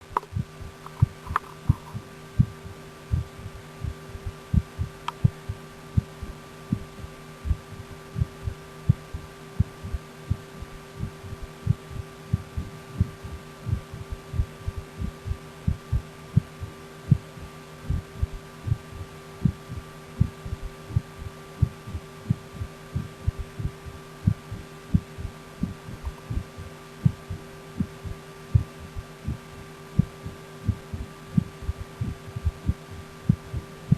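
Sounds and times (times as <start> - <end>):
steady low hum: 0.0 - 33.9
heartbeat through a stethoscope: 0.2 - 33.9.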